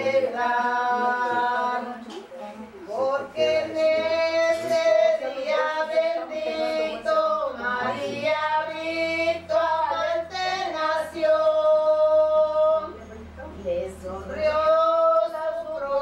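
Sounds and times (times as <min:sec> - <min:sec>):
woman singing: 0:00.0 - 0:16.0.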